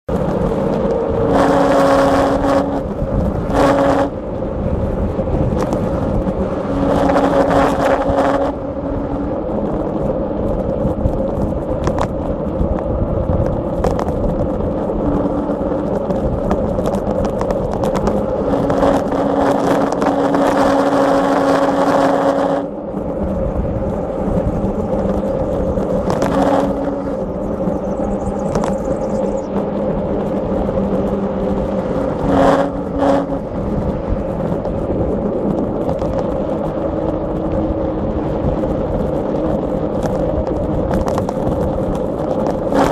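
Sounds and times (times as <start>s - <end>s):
bike tyres rattling over dirt: 0.1s - 42.9s
rushing noise: 0.1s - 42.9s.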